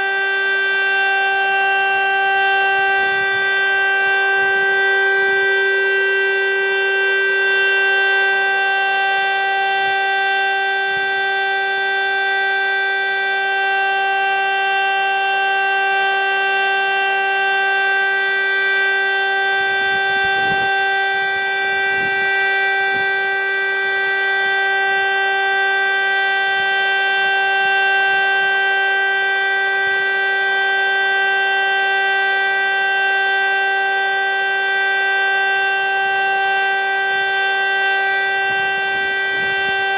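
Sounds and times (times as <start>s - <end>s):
electric siren steady tone: 0.0s - 39.9s.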